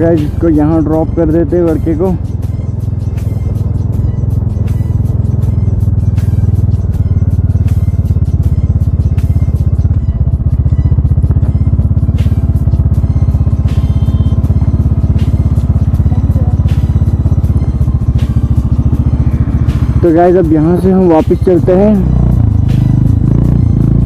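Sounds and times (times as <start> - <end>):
motorcycle engine running at low revs: 0.0 - 24.0.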